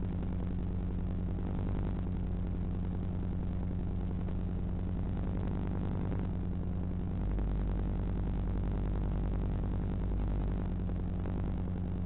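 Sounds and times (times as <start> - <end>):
low buzzing hum: 0.0 - 12.0.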